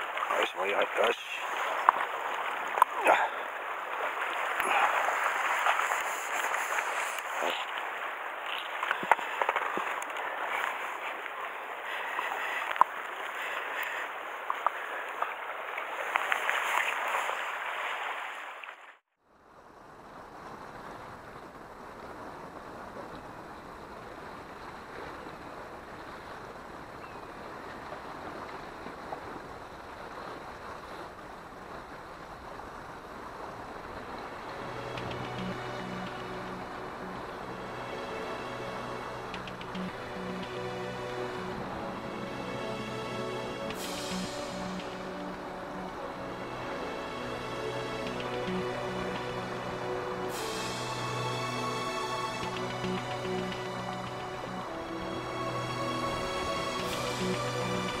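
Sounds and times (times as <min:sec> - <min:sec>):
sea water washing against rocks: 0:00.0 - 0:19.0, 0:20.1 - 0:58.0.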